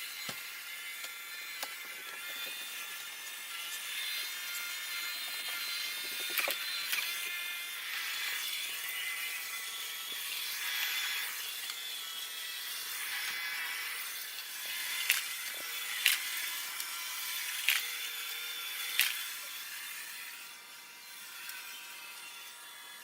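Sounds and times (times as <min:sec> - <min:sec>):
robot vacuum whirring: 0:00.0 - 0:23.0.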